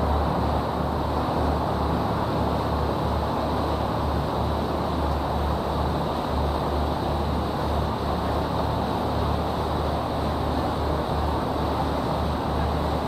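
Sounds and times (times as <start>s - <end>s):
boat engine rumble: 0.0s - 13.0s
water rushing: 0.0s - 13.0s.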